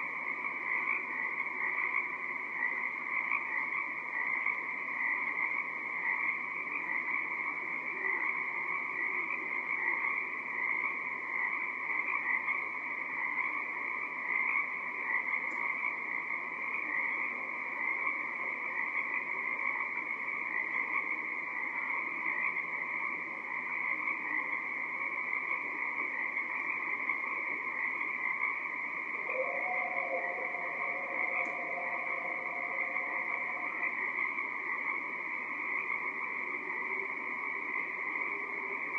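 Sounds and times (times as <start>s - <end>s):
tree frogs chorus: 0.0s - 38.9s.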